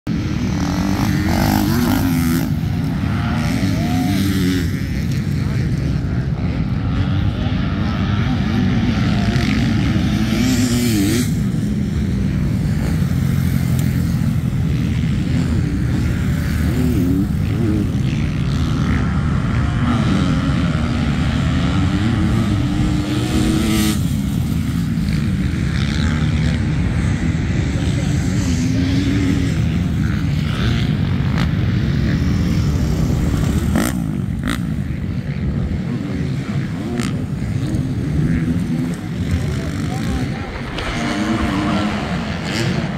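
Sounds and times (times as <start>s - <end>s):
dirt bike engines revving: 0.1s - 42.9s.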